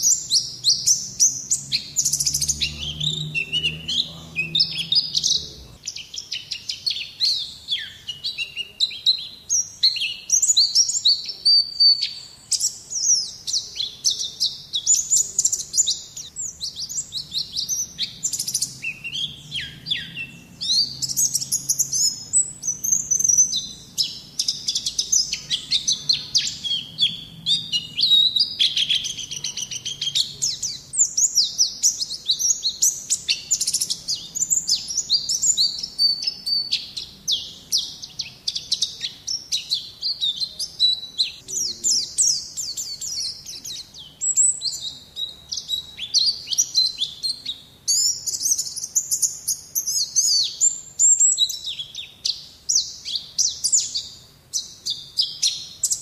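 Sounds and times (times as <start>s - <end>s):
bird singing high chirps: 0.0s - 56.0s.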